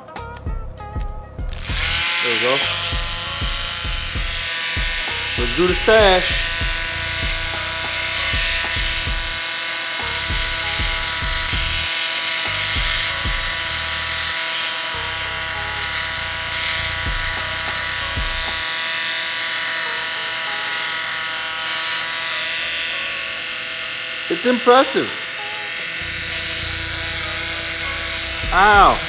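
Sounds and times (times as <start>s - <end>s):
electric shaver buzzing: 1.5s - 29.0s.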